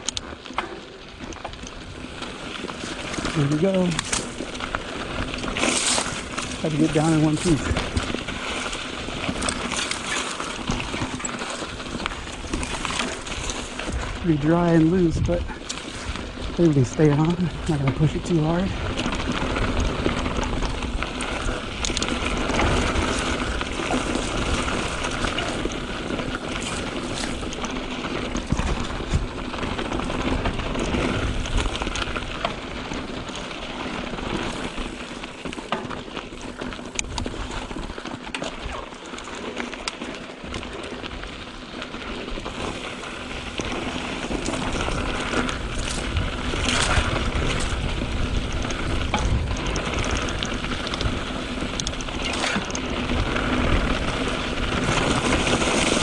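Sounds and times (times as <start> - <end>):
bike clicks and rattles: 0.0 - 56.0
tyres crunching over dirt: 0.0 - 56.0.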